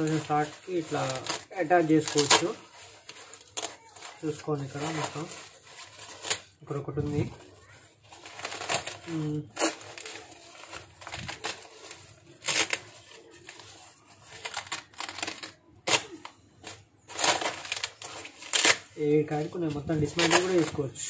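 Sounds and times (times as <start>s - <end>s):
nylon fabric rustling: 0.0s - 21.0s.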